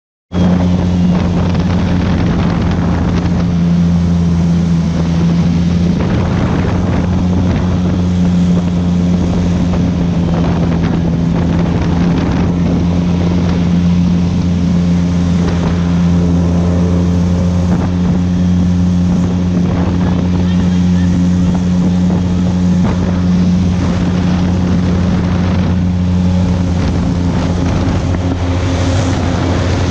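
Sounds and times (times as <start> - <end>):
airboat engine and propeller hum: 0.3 - 29.9
wind buffeting microphone: 0.3 - 29.9.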